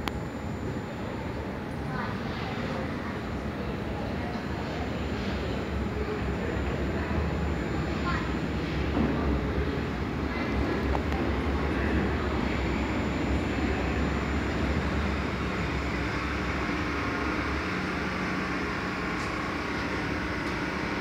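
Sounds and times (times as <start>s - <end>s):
steady low hum: 0.0s - 21.0s
underground train rumbling: 0.0s - 21.0s.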